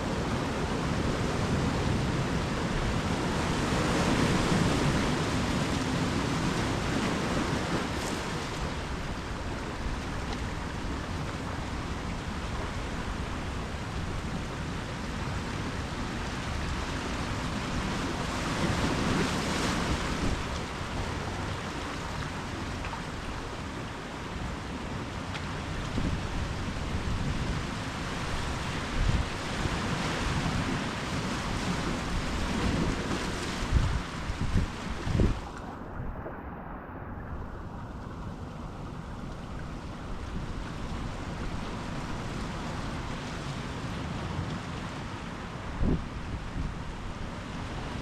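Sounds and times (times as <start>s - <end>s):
ocean surf washing up beach: 0.0s - 48.0s.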